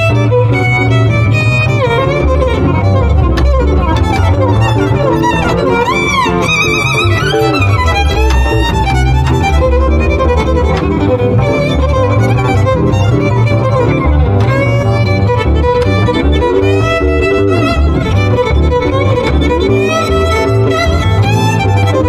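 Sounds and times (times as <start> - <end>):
double bass walking line: 0.0 - 22.0
jazz violin: 0.0 - 22.0.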